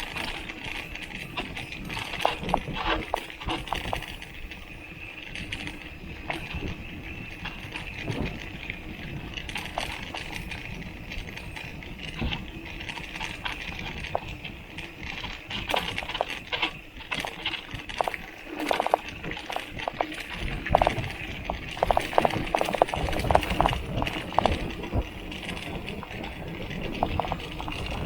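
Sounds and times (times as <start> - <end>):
mountain bike riding rumble: 0.0 - 28.0.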